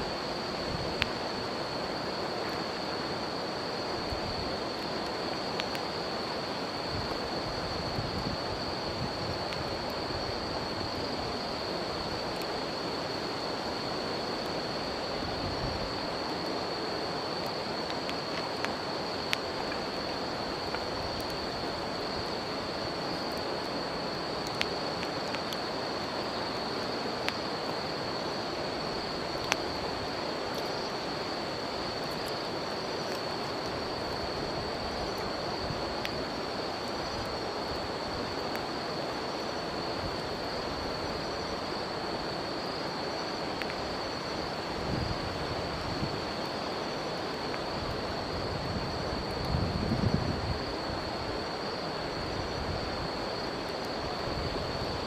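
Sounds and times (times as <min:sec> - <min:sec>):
river flowing: 0:00.0 - 0:07.8, 0:08.4 - 0:49.4, 0:50.3 - 0:55.0
insects trilling: 0:00.0 - 0:55.0
campfire crackling and popping: 0:00.1 - 0:50.5, 0:51.1 - 0:55.0.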